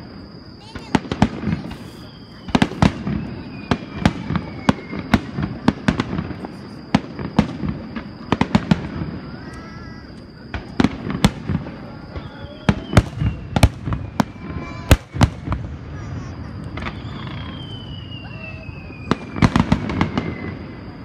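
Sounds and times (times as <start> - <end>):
firework bangs and crackles: 0.0 - 21.0.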